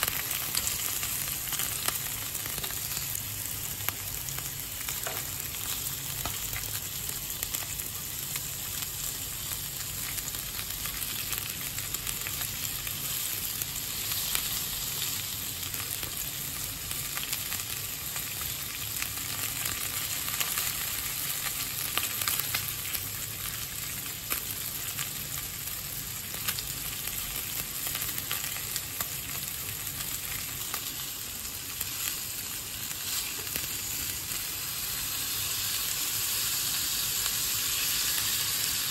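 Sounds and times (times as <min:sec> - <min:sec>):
meat sizzling with crackling pops: 0:00.0 - 0:38.9.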